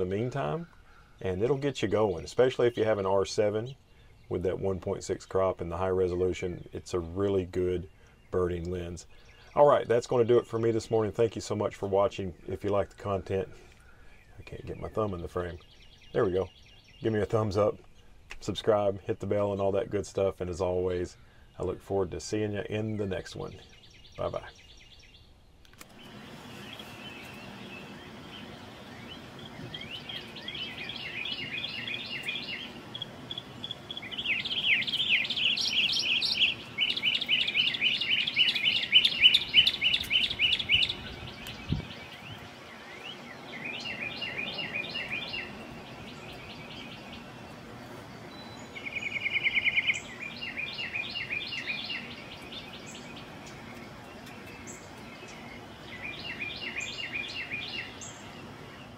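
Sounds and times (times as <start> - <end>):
songbird chirping: 0.0 - 58.9.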